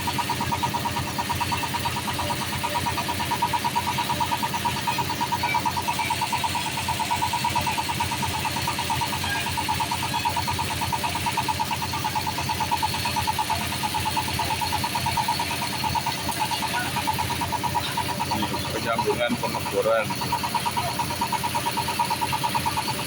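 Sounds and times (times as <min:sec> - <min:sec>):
drilling rig pulsing mechanical noise: 0:00.0 - 0:23.0.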